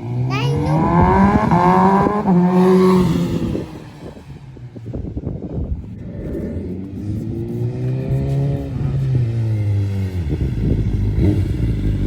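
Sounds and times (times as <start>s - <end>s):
exhaust crackles: 0.0s - 12.0s
motorcycle engine revving: 0.0s - 12.0s.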